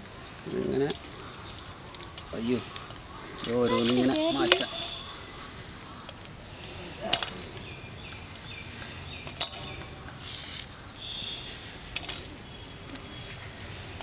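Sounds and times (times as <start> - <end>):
crickets droning: 0.0 - 14.0.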